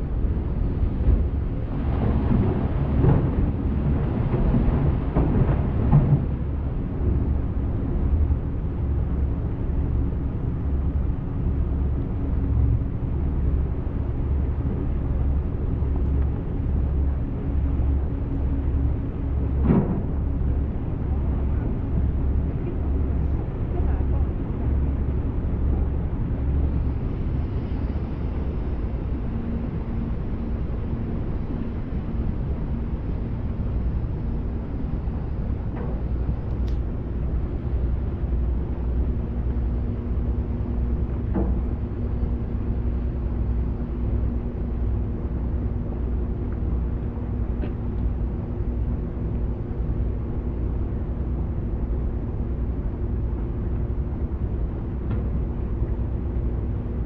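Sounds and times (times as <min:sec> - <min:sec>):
ferry engine rumble: 0:00.0 - 0:57.0
low even hum: 0:00.0 - 0:57.0.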